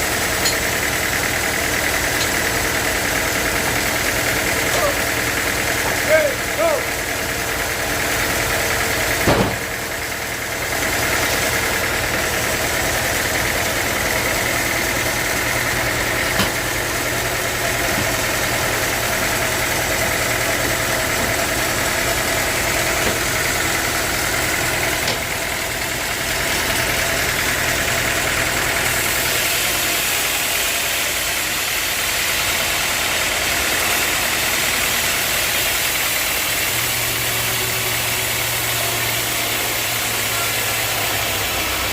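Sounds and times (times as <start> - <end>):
sawmill machinery droning: 0.0 - 41.9.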